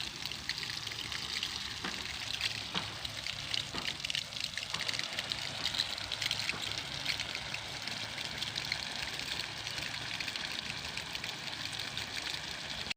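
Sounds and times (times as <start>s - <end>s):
water spraying from sprinkler: 0.0s - 12.9s.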